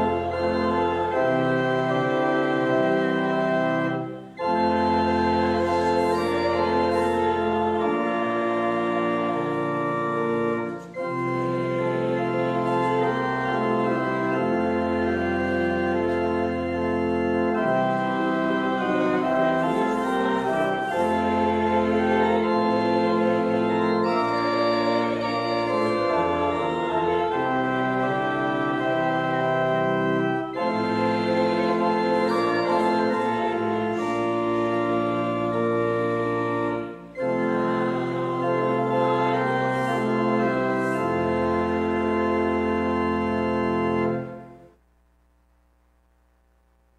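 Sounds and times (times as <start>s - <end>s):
organ playing slow chords: 0.0s - 44.8s.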